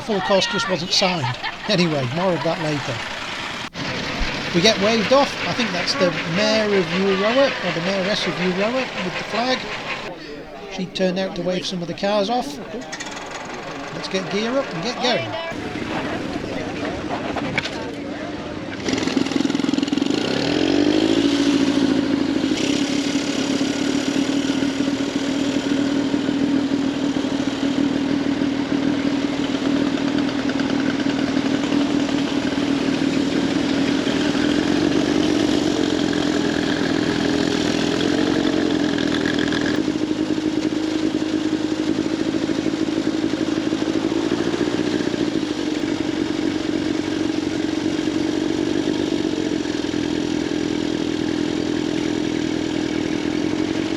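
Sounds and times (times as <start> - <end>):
two-stroke motorcycle engine running: 0.0 - 16.9, 18.8 - 53.9.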